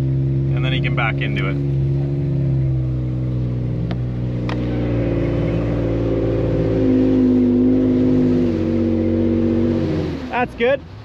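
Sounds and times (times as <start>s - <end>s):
vehicle engine under load: 0.0s - 11.0s.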